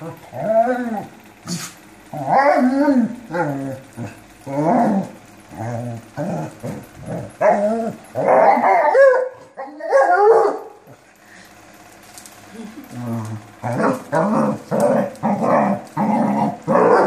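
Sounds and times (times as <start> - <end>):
dogs play barking and growling: 0.0 - 17.0.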